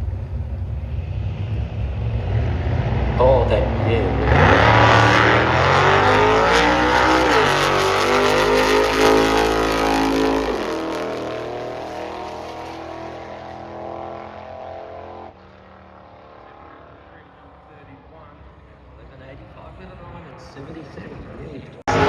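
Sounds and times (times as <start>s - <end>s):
drag racing cars accelerating: 0.0s - 22.0s.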